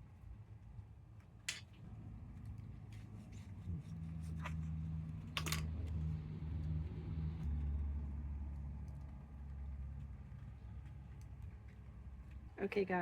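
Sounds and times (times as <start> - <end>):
low engine rumble: 1.8 - 13.0.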